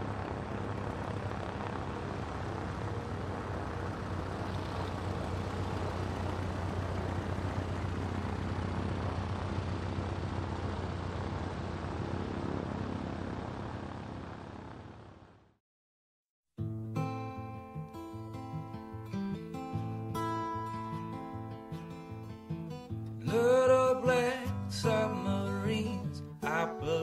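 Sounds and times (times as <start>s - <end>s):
propeller airplane engine droning: 0.0s - 15.6s, 17.3s - 27.0s.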